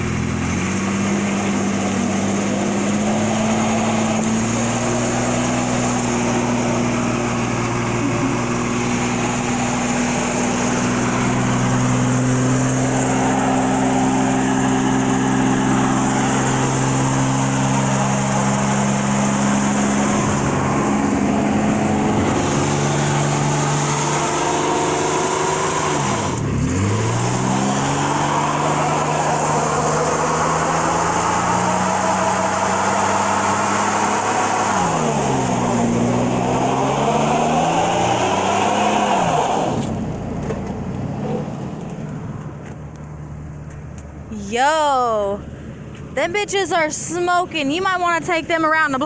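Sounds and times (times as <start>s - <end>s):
tires hissing on pavement: 0.0s - 44.3s
truck engine at high revs: 0.0s - 49.0s.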